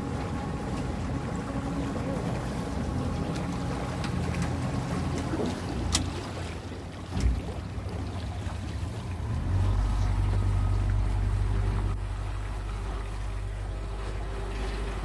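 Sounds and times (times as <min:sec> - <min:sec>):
motorboat engine running: 0:00.0 - 0:15.0
water: 0:00.0 - 0:15.0.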